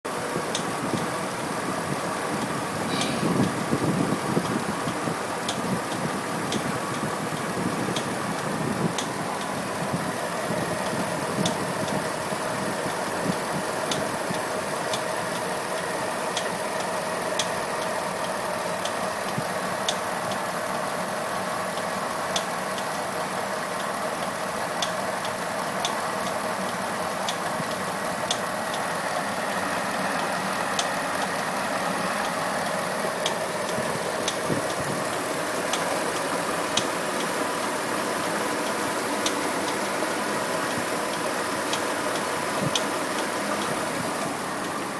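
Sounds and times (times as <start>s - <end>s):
car engine idling: 0.1s - 44.9s
sharp ticking from engine: 0.1s - 44.9s.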